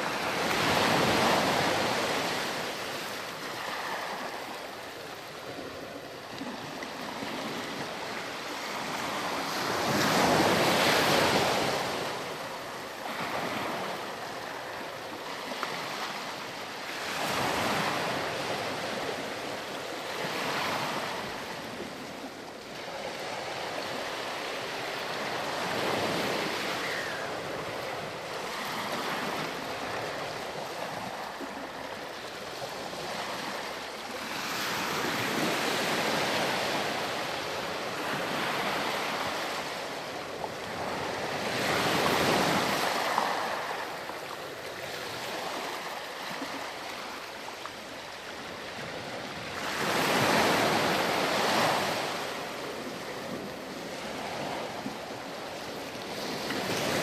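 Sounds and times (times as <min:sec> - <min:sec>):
ocean waves breaking ashore: 0:00.0 - 0:57.0.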